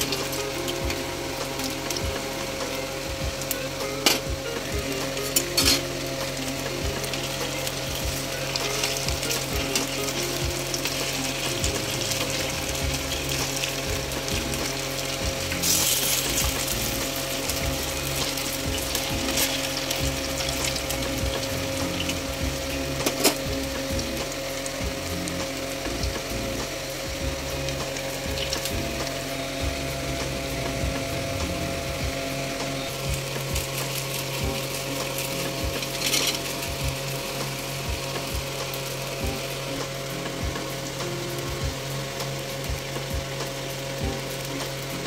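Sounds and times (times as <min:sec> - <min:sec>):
mechanical hum: 0:00.0 - 0:45.0
oil sizzling and bubbling: 0:00.0 - 0:45.0.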